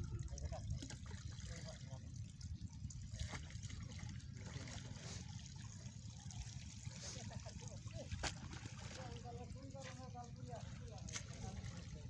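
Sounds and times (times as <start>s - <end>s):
river water trickling and splashing: 0.0s - 12.0s.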